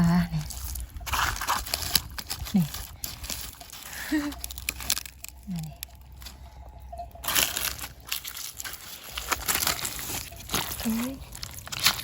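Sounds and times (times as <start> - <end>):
dry plants rustling and crunching: 0.0 - 12.0.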